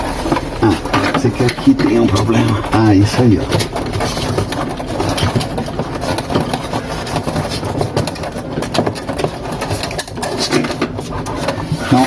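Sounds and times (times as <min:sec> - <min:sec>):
plastic rustling and scraping: 0:00.0 - 0:12.0.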